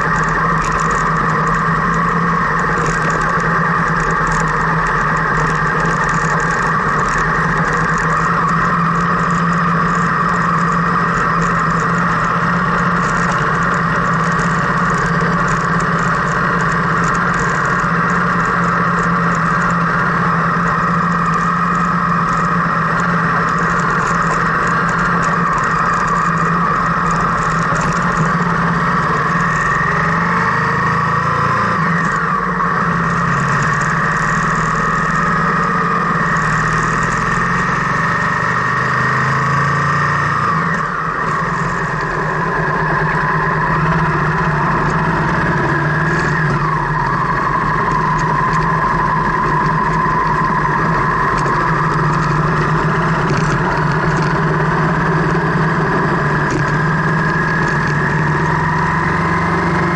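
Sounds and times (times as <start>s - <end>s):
car engine running: 0.0s - 59.9s
gravel crackling under tyres: 0.0s - 59.9s.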